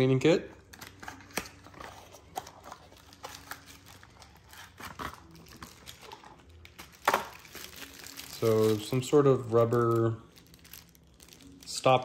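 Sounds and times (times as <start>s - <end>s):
paper and plastic rustling: 0.7s - 12.0s.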